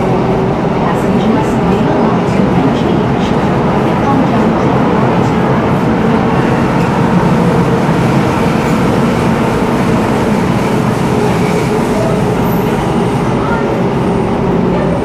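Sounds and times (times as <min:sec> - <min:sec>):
metro train rumble in tunnel: 0:00.0 - 0:15.0.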